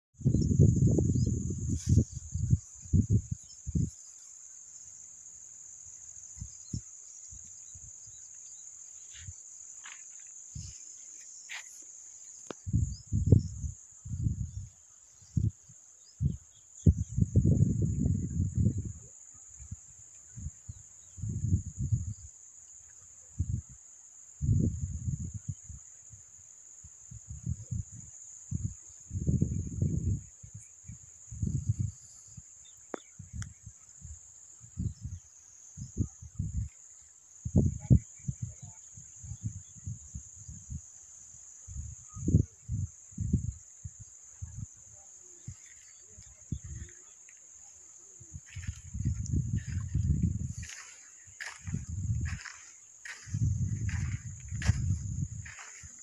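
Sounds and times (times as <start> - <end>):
insects chirring: 0.2 - 56.0.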